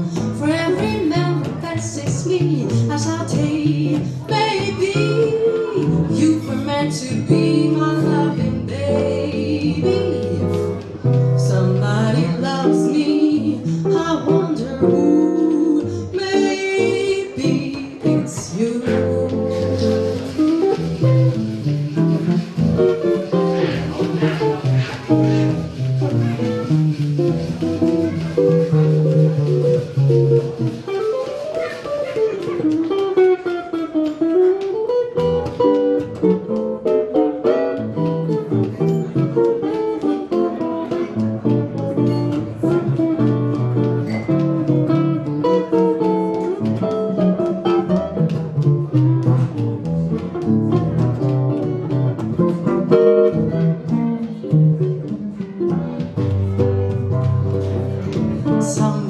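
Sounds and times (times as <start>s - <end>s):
solo jazz guitar: 0.0s - 59.0s.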